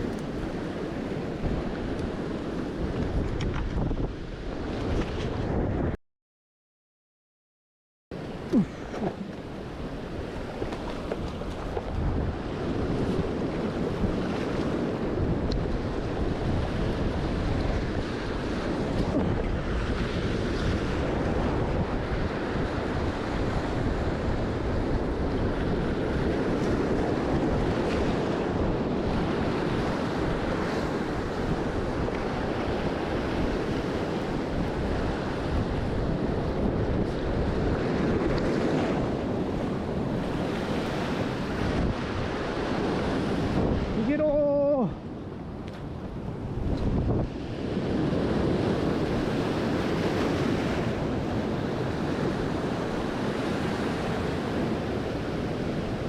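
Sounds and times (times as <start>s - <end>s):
surf washing against shore: 0.0s - 6.0s, 8.2s - 56.0s
wind buffeting microphone: 0.0s - 6.0s, 8.2s - 56.0s.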